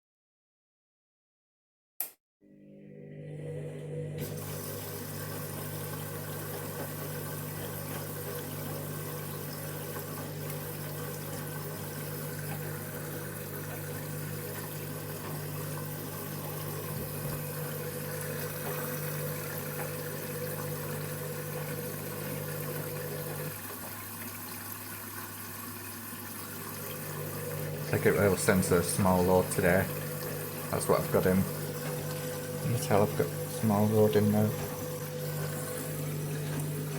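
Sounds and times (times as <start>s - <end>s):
washing machine hum: 2.4s - 36.9s
rush of water filling machine: 3.5s - 36.9s.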